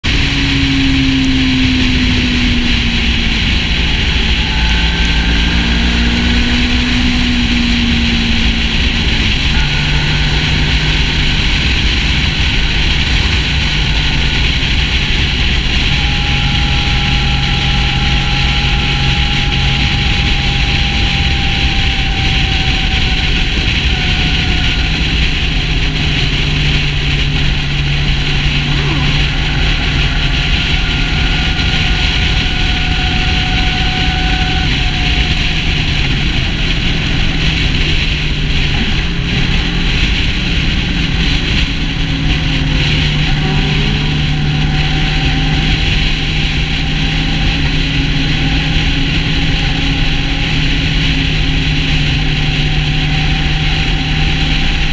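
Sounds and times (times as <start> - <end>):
motorcycle engine running: 0.0 - 54.9
road noise: 0.0 - 54.9
wind rush: 0.0 - 54.9.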